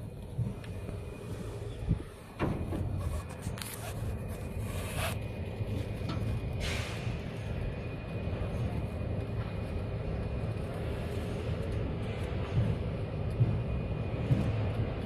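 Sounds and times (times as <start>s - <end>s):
harvester diesel engine droning: 0.0s - 15.0s.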